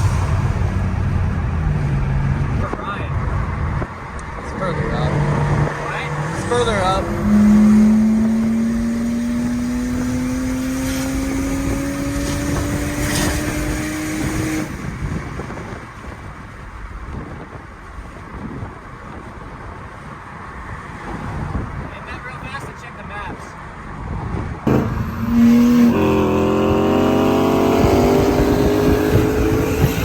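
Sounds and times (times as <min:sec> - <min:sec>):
car engine at full throttle: 0:00.0 - 0:22.1, 0:23.8 - 0:30.0
road and tyre noise: 0:00.0 - 0:30.0.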